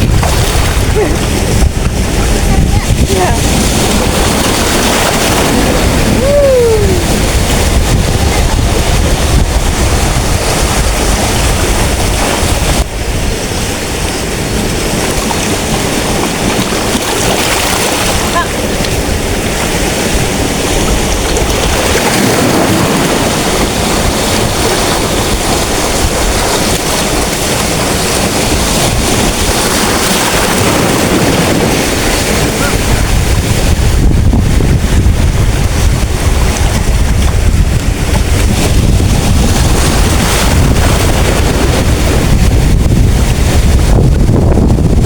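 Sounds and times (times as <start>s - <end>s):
waves breaking on a beach: 0.0s - 45.0s
wind buffeting microphone: 0.0s - 45.0s.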